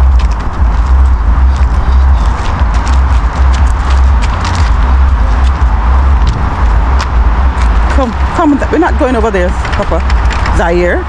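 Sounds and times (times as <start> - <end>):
footsteps on path: 0.0 - 10.9
wind buffeting microphone: 0.0 - 11.0.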